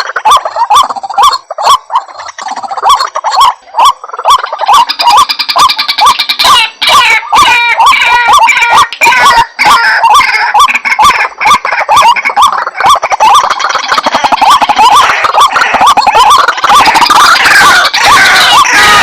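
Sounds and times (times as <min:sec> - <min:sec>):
waterhens croaking: 0:00.0 - 0:19.0.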